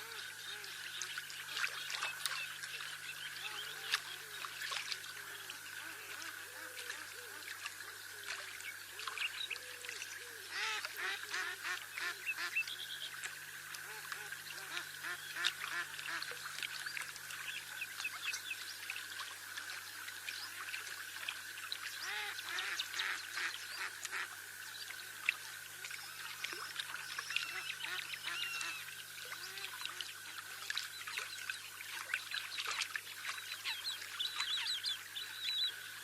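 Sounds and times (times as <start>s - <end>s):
waterfowl calling: 0.0s - 18.6s, 22.0s - 24.3s, 25.8s - 35.9s.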